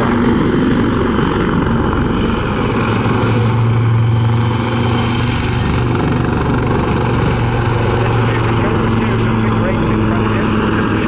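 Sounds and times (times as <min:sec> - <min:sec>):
helicopter rotor chop: 0:00.0 - 0:11.0
helicopter turbine engines: 0:00.0 - 0:11.0.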